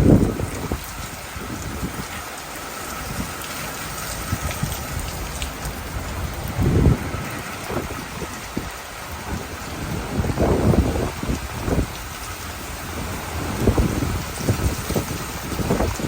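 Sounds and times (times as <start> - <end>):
heavy rain pelting down: 0.0 - 16.0.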